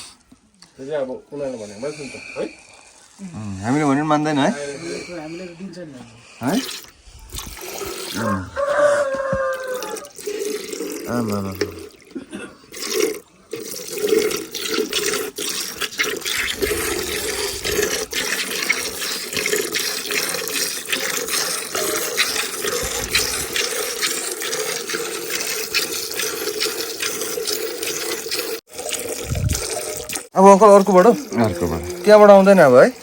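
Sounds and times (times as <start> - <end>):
milk squirting into container: 6.4 - 33.0.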